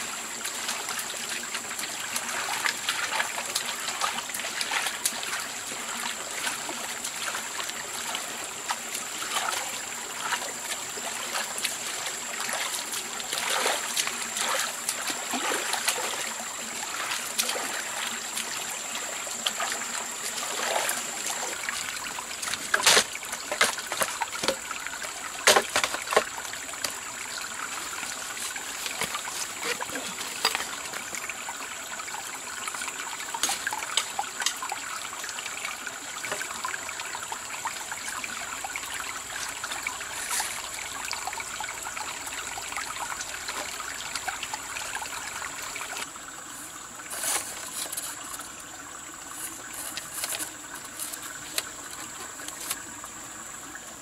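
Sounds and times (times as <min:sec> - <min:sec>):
small splashes or knocks: 0:00.0 - 0:27.1, 0:27.8 - 0:31.4, 0:33.3 - 0:34.7, 0:42.0 - 0:53.3
water trickling and splashing: 0:00.0 - 0:54.0.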